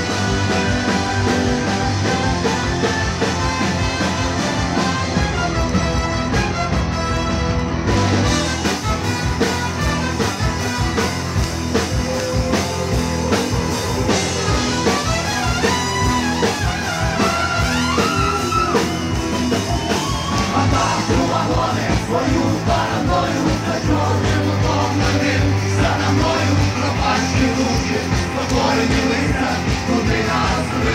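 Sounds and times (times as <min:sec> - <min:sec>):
drum kit beat: 0:00.0 - 0:30.9
electric guitar: 0:00.0 - 0:30.9.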